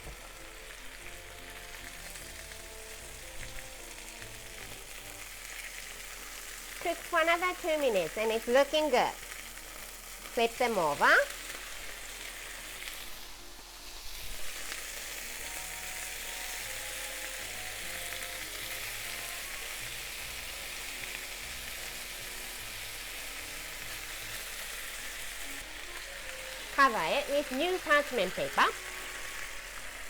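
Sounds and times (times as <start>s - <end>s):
chicken sizzling in a frying pan: 0.0s - 30.0s.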